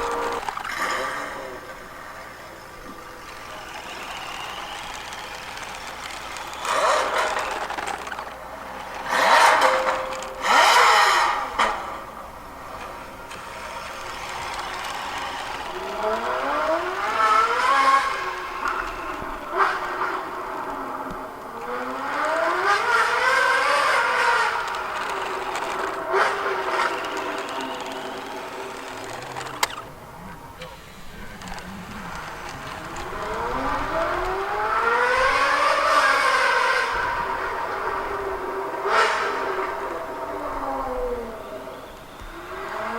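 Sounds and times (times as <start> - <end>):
sports car engine revving: 0.0 - 42.9.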